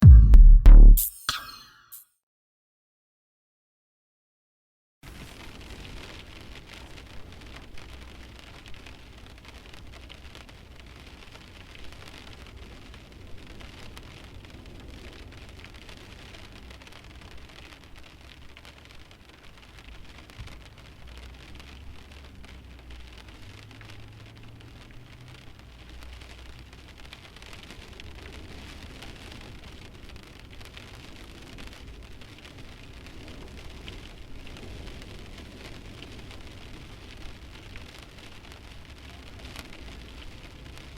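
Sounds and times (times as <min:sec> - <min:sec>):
rain hissing on windshield: 0:05.1 - 0:40.9.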